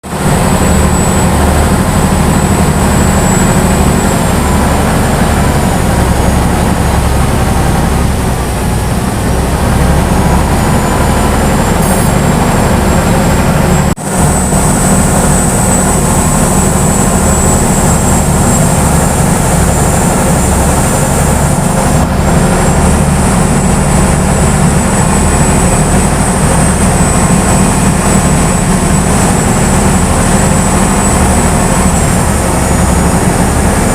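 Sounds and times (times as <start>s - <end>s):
boat diesel engine running: 0.0s - 33.9s.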